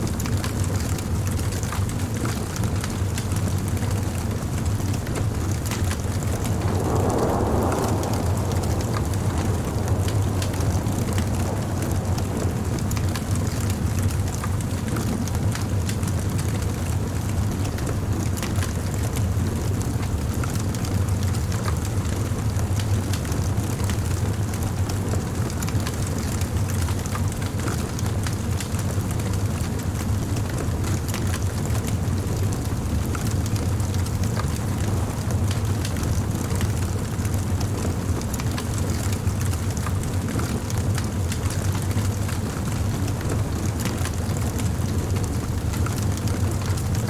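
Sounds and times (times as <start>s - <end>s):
fire crackles and pops: 0.0s - 47.0s
bonfire flame rushing: 0.2s - 47.0s.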